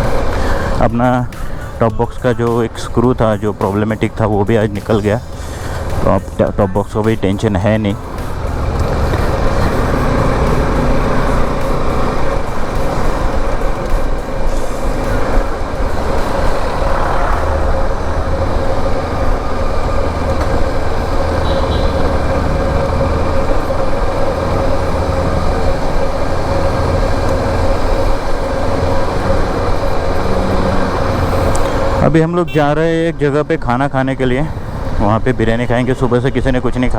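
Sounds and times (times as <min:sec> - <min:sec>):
wind noise: 0:00.0 - 0:32.0
motorcycle engine running: 0:00.0 - 0:32.6
road noise: 0:00.0 - 0:36.9.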